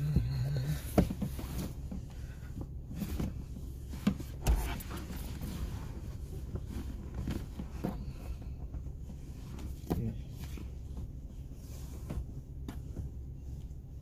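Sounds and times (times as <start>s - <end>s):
low rumble: 0.0s - 14.0s
rustling of handled objects: 0.2s - 14.0s.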